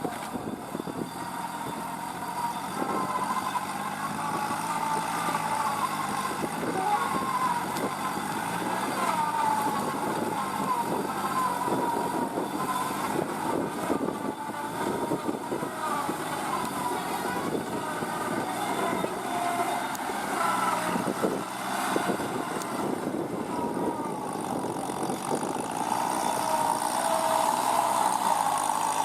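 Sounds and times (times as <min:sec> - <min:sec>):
diesel tractor engine running: 0:00.0 - 0:29.0
wavering engine whine: 0:00.0 - 0:29.0.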